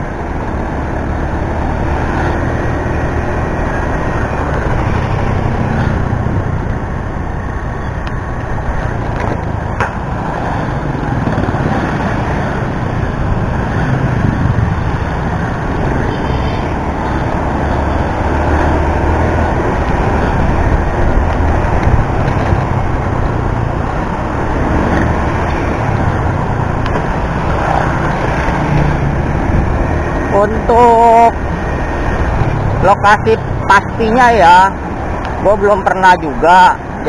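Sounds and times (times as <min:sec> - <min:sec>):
passing road traffic: 0:00.0 - 0:37.0
wind rush on microphone: 0:01.0 - 0:33.8.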